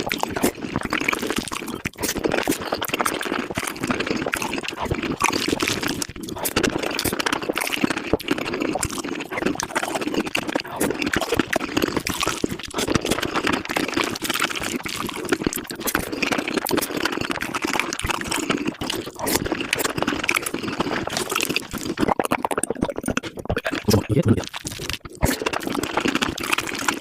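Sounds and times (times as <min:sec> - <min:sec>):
rapid slurping and chewing: 0:00.0 - 0:27.0.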